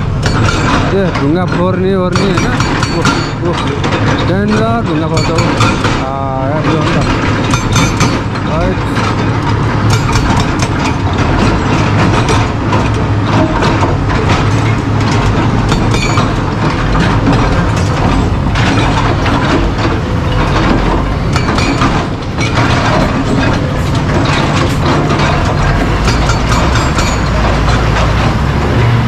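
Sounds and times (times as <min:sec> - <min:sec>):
diesel engines rumbling: 0:00.0 - 0:29.0
hydraulic breaker hammering stone: 0:00.0 - 0:29.0.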